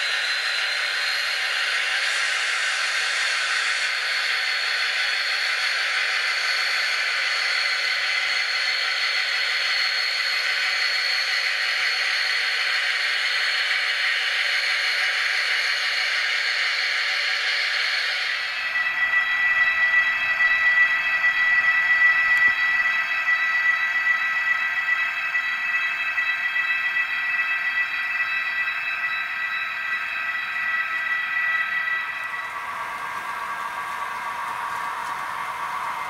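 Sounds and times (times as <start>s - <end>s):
faint high whistle: 0.0s - 36.0s
model locomotive drone: 0.0s - 36.0s.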